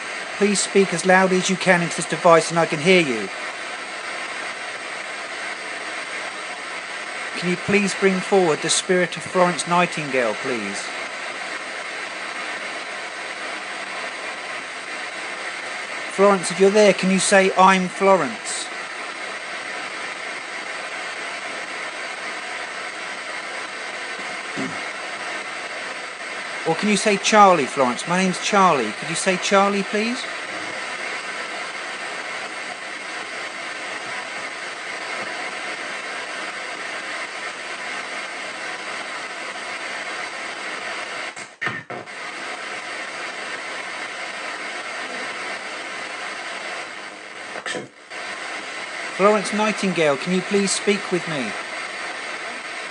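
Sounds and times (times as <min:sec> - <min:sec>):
radio static hiss: 0:00.0 - 0:52.9.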